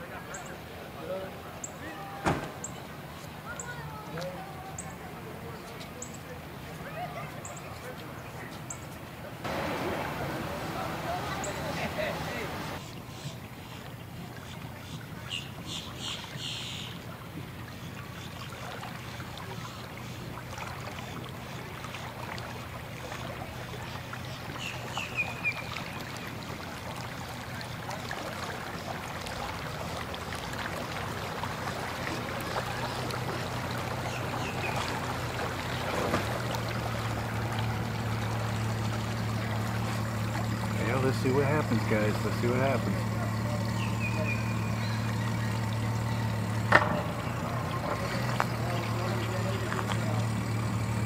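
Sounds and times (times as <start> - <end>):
water churning: 0.0 - 8.5, 9.1 - 51.0
outboard engine idling: 0.0 - 51.0.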